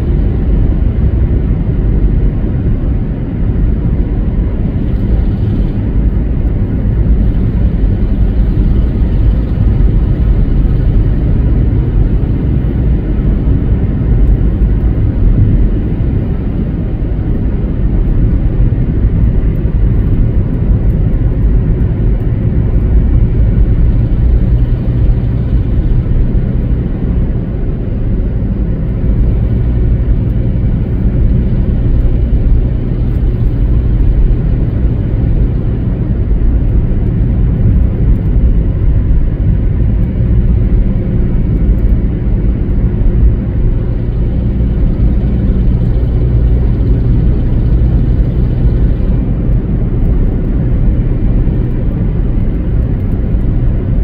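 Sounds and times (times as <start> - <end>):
car driving at highway speed: 0.0 - 54.0.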